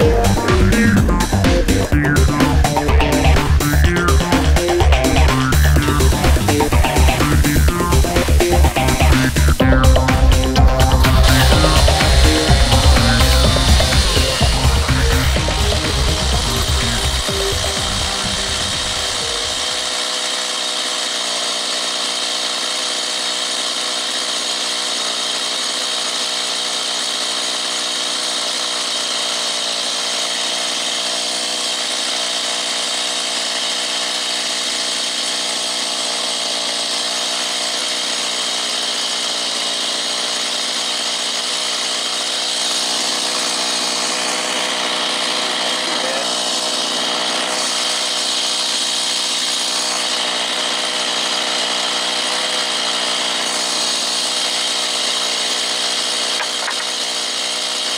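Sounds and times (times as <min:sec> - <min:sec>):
chainsaw cutting log at full throttle: 0:00.0 - 0:57.9.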